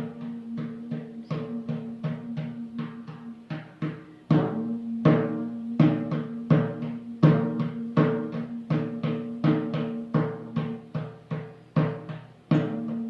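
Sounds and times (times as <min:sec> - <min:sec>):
tuned drum strokes: 0:00.0 - 0:13.0.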